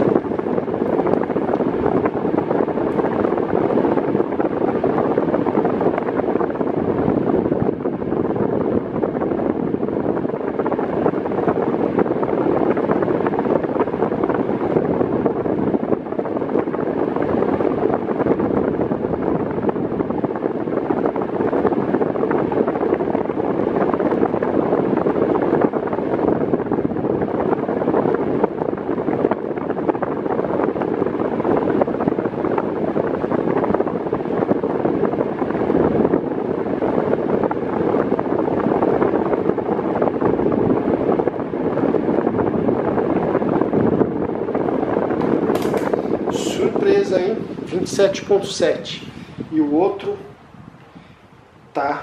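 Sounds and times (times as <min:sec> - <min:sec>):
fan blowing air: 0:00.0 - 0:52.0.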